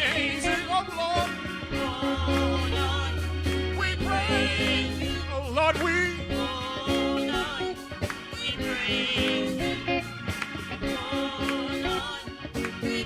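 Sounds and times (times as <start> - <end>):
church band gospel music: 0.0 - 13.0
people singing praise chorus: 0.0 - 13.0
steady drum beat: 0.0 - 13.0.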